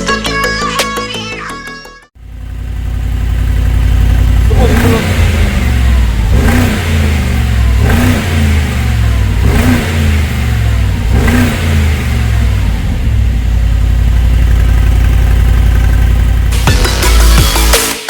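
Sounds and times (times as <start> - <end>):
car engine idling: 2.2 - 17.8
car engine revving: 2.2 - 17.8.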